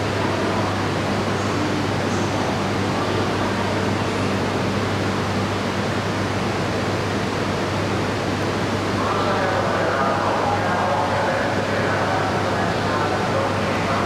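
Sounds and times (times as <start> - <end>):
train air-conditioning hum and hiss: 0.0 - 14.0.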